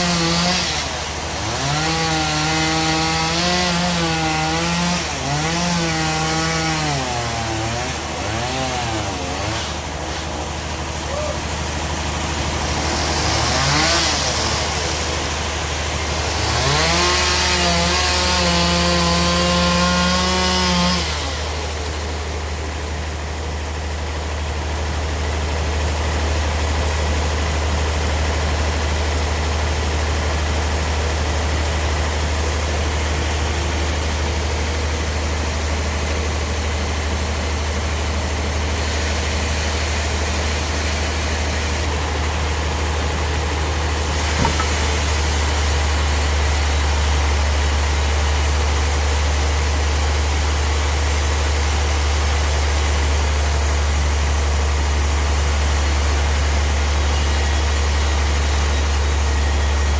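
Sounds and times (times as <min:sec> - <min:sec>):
chainsaw revving: 0:00.0 - 0:24.6, 0:25.5 - 0:59.9
heavy engine idling: 0:00.0 - 0:59.9.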